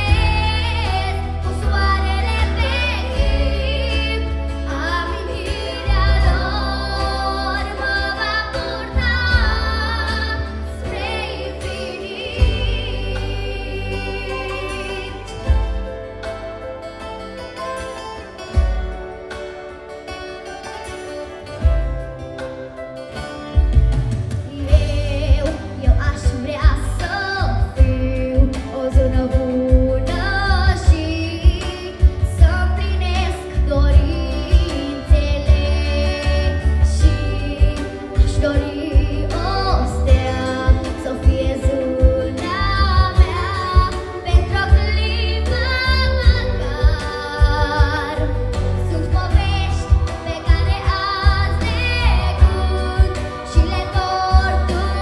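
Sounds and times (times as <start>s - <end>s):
girl singing into microphone: 0.0s - 15.8s, 24.5s - 55.0s.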